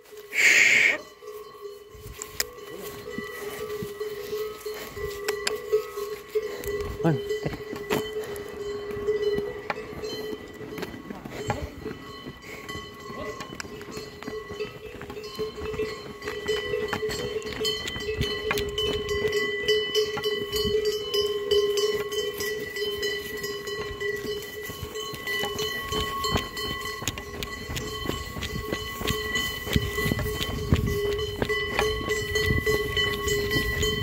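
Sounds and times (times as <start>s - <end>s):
cowbells clanking: 0.0s - 34.0s
hooves clopping on asphalt: 0.0s - 34.0s
footsteps on asphalt: 1.4s - 20.9s, 22.0s - 34.0s.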